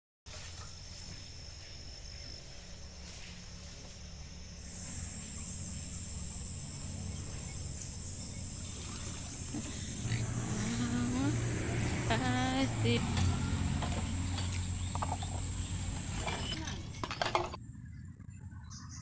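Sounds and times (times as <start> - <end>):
insects trilling: 0.3 - 17.6.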